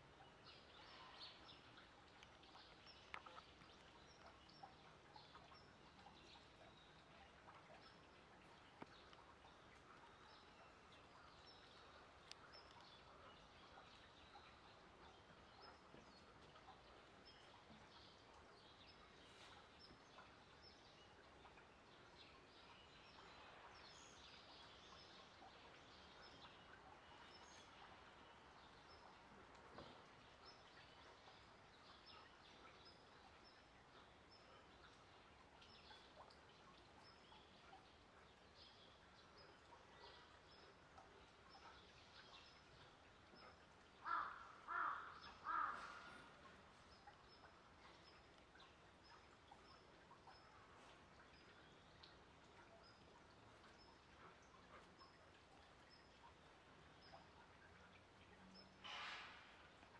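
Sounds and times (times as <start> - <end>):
small birds chirping: 0.0 - 58.8.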